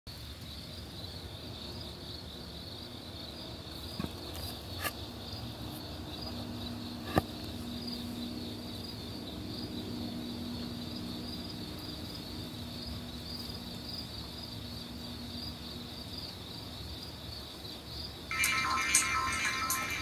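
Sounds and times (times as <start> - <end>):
night insects chirping: 0.1 - 20.0.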